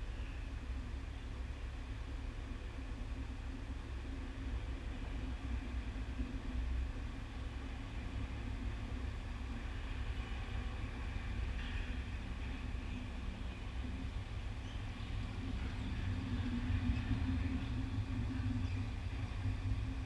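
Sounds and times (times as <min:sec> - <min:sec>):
arena rumble and hum: 0:00.0 - 0:20.0.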